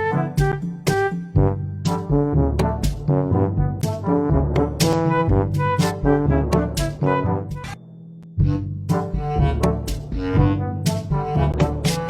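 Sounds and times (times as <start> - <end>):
music with brass and drums: 0.0 - 12.0.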